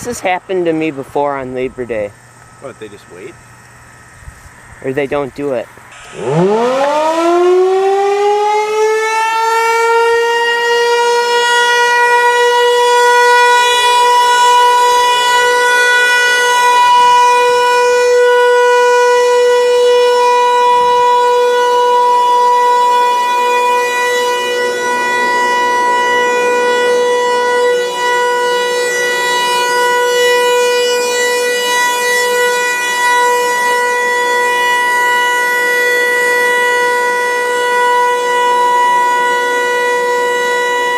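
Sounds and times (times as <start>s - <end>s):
warning siren wailing: 4.8s - 40.9s.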